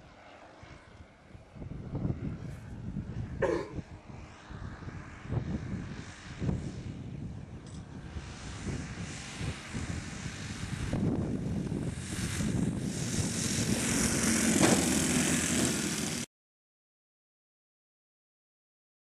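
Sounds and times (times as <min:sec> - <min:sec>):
model airplane engines running: 0:00.0 - 0:16.3.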